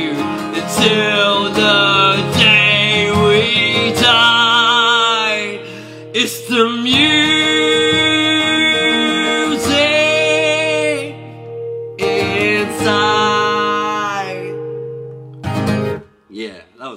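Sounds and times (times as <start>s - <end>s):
strummed acoustic guitar: 0.0s - 16.2s.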